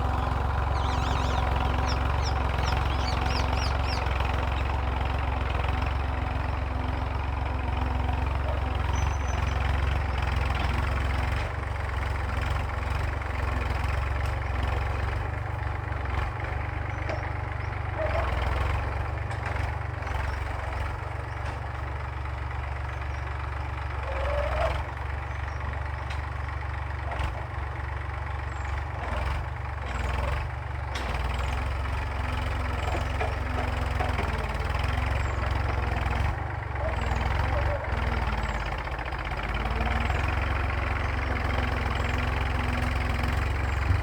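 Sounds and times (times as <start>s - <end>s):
tractor engine droning: 0.0s - 44.0s.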